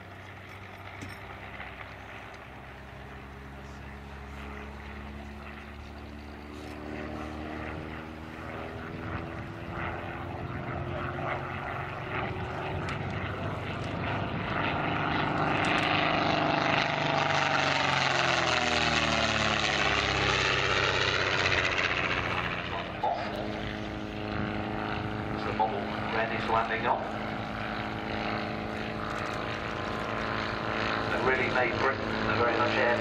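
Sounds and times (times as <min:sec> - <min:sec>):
propeller plane flying past: 0:00.0 - 0:33.0.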